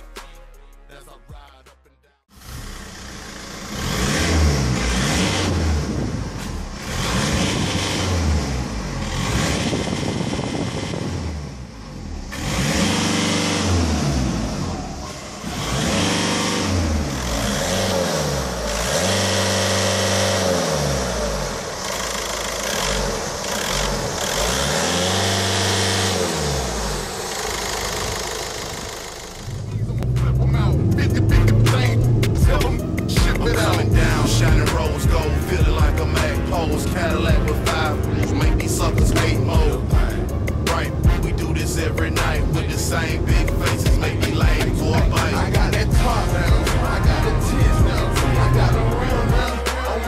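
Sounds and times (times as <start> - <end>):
diesel engine revving: 0.0 - 50.0.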